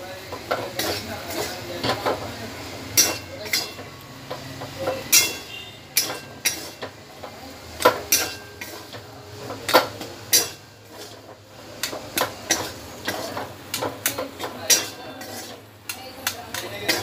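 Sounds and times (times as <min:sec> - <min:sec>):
spatula scraping metal pan: 0:00.4 - 0:02.2, 0:02.8 - 0:07.0, 0:07.8 - 0:17.0.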